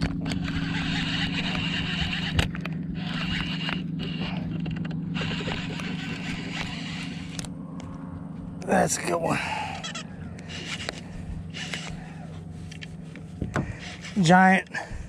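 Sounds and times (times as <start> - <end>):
fishing reel gears whirring: 0.0 - 8.0, 8.9 - 15.0
steady low hum: 0.0 - 15.0.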